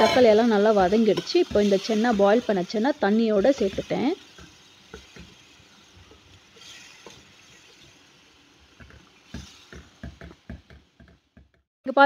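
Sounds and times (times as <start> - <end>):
spatula tapping pan: 0.0 - 2.4, 3.2 - 7.9, 8.7 - 11.6
spatula stirring in pan: 0.0 - 11.4
faint simmering hiss: 0.6 - 10.8.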